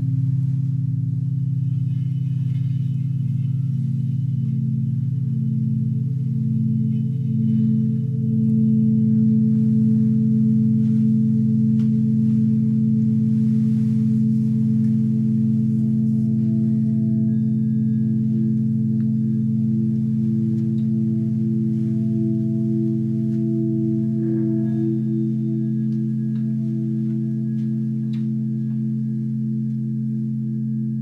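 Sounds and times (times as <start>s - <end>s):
low droning meditation music: 0.0s - 31.0s
slow pulsing beat: 0.0s - 31.0s.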